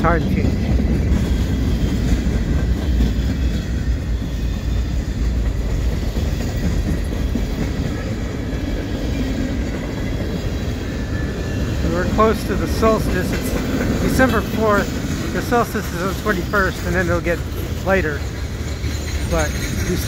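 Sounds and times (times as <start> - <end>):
steel wheels rolling on rail: 0.0 - 20.0.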